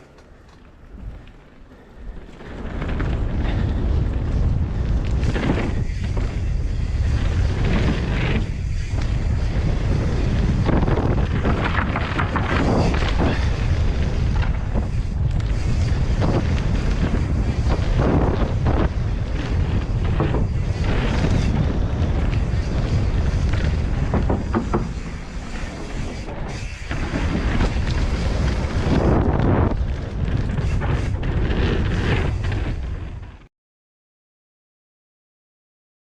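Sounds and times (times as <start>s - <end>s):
wind buffeting microphone: 0.0s - 33.4s
bike rattling over rough ground: 0.0s - 33.5s.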